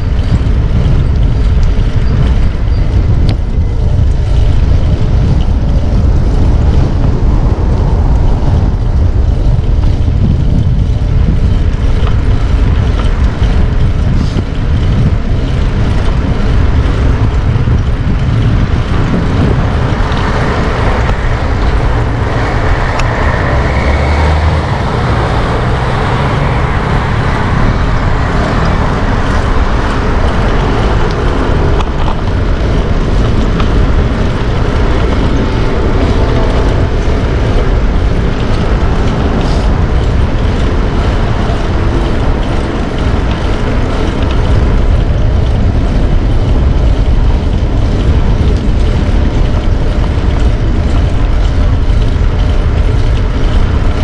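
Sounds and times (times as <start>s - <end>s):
cars passing: 0.0s - 54.0s
low traffic rumble: 0.0s - 54.0s.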